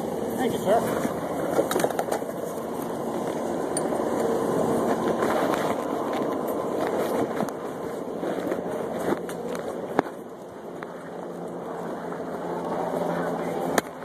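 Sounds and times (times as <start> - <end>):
steady background rumble: 0.0 - 14.0.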